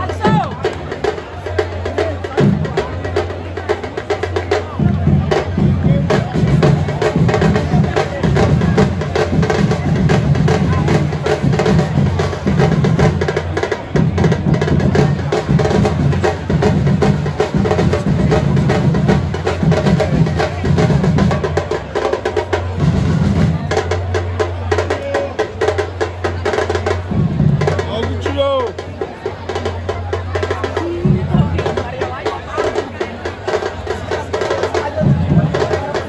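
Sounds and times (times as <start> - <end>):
deep bass drums: 0.0 - 36.0
rapid snare drum strokes: 0.0 - 36.0
samba drum section playing: 0.0 - 36.0.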